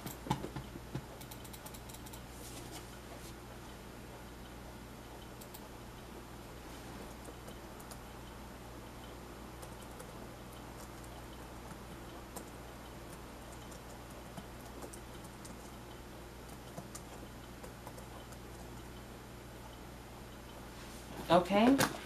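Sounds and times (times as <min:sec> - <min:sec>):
low hum and hiss: 0:00.0 - 0:22.0.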